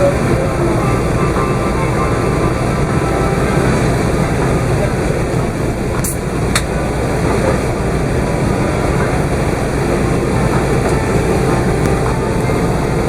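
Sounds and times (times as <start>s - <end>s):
aircraft cabin engine rush: 0.0s - 13.0s.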